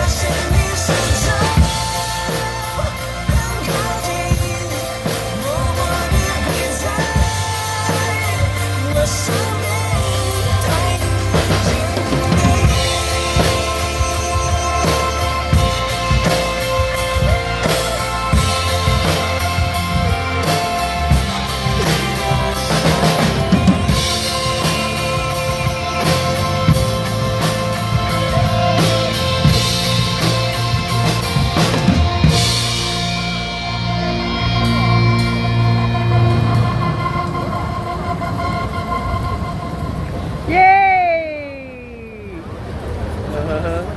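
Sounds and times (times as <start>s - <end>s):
pop backing track: 0.0s - 39.5s
drum kit playing: 0.0s - 40.7s.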